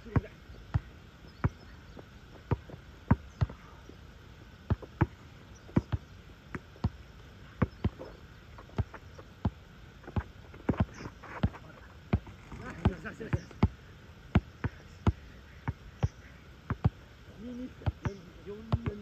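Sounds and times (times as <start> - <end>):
basketball bouncing on asphalt: 0.0 - 3.8, 4.6 - 17.0, 17.8 - 19.0.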